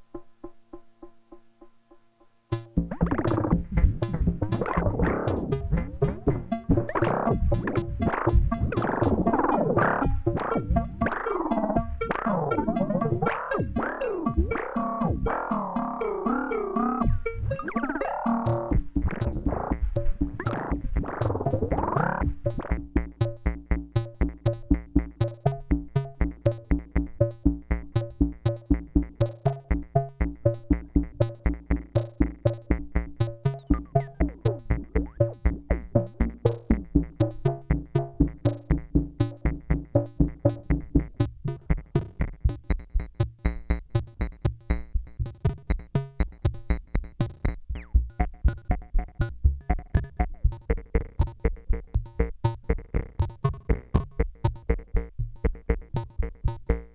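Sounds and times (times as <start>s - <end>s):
synthesizer plucky bass sequence: 2.5s - 56.9s.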